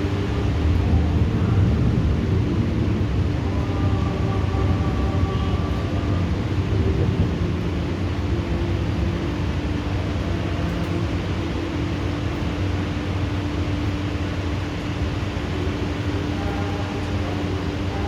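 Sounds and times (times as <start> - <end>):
heavy rain hiss: 0.0 - 18.0
low constant hum: 0.0 - 18.0.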